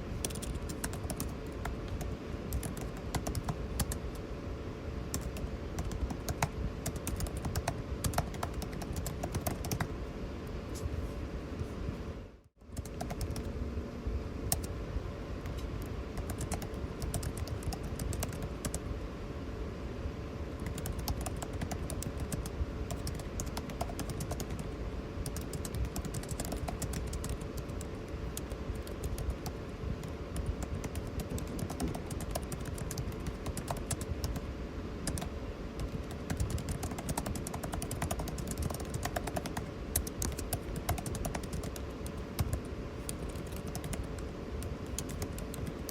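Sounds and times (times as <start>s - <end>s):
air conditioning hum: 0.0s - 45.9s.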